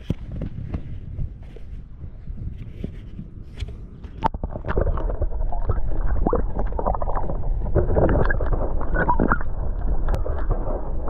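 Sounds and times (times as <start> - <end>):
underwater gurgles and knocks: 0.0 - 11.0
underwater low rumble: 0.0 - 11.0.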